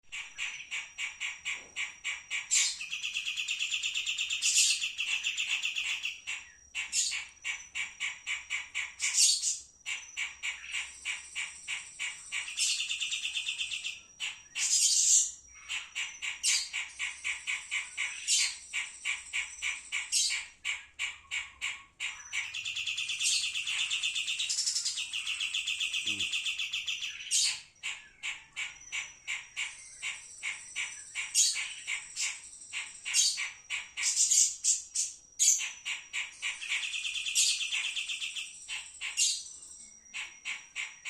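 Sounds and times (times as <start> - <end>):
buzzy bird trills: 0.1 - 41.0
harsh bird calls: 0.1 - 41.0
songbird singing high chirps: 0.2 - 41.0.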